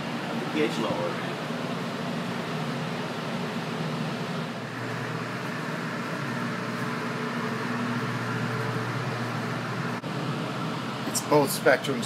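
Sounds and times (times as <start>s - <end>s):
mechanical hum of equipment: 0.0s - 12.0s.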